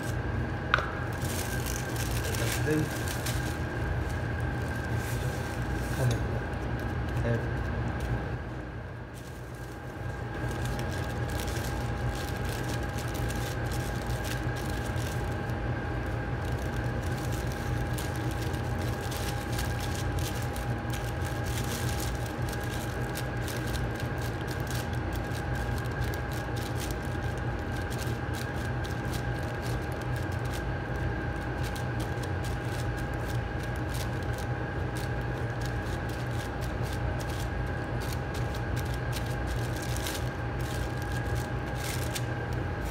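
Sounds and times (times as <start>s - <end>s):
machine hum with whine: 0.0s - 42.9s
plastic sheet crinkling: 0.0s - 42.9s.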